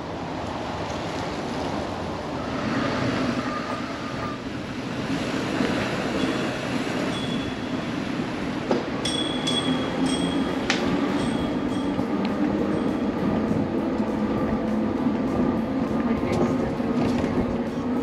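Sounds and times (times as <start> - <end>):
rushing wind: 0.0 - 18.0.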